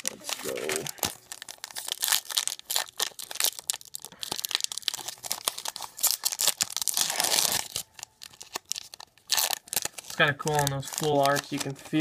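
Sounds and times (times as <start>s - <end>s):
foil wrapper crinkling: 0.0s - 12.0s
wrapper tearing rustle: 0.0s - 12.0s.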